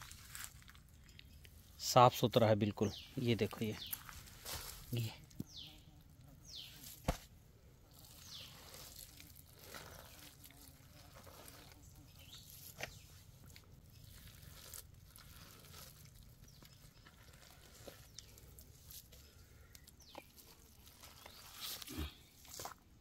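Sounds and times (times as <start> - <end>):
faint rustles of hands in mixture: 3.1 - 23.0.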